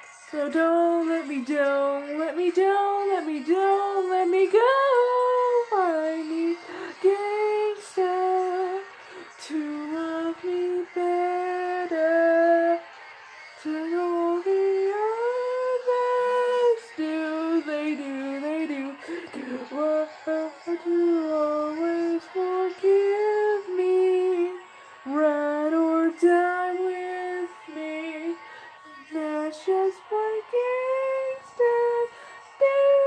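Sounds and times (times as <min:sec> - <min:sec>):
person singing wordless melody: 0:00.0 - 0:33.0.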